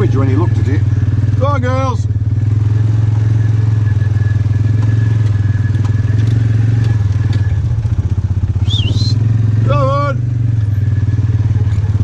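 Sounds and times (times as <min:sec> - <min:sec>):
utility vehicle engine running: 0:00.0 - 0:12.0.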